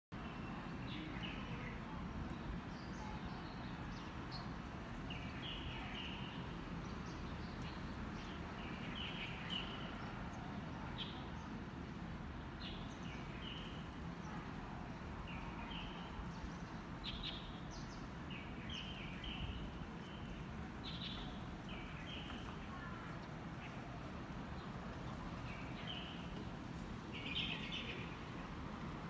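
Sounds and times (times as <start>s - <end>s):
small birds chirping: 0.2s - 11.6s, 12.4s - 28.6s.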